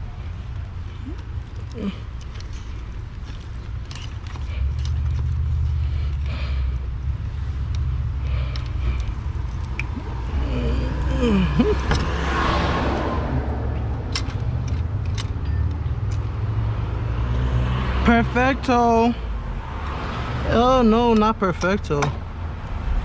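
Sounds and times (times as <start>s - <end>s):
steady low rumble: 0.0s - 17.1s, 21.1s - 23.0s.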